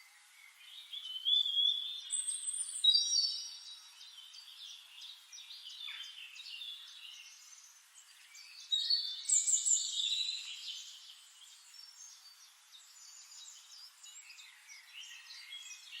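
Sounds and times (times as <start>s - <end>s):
small birds singing and chirping: 0.0s - 16.0s.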